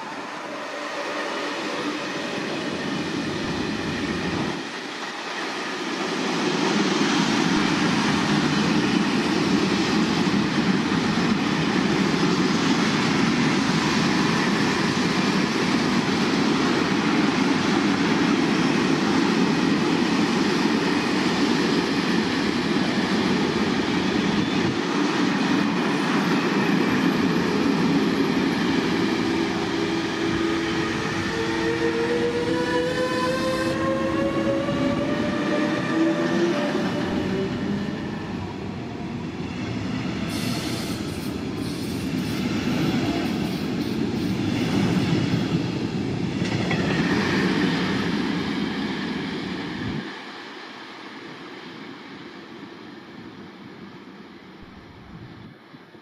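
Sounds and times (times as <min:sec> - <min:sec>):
train wheels rolling on rails: 0:00.0 - 0:55.9.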